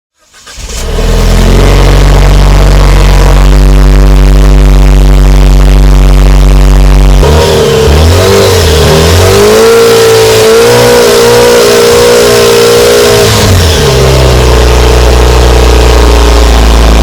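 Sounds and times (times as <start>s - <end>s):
car engine idling and revving: 0.2s - 17.0s.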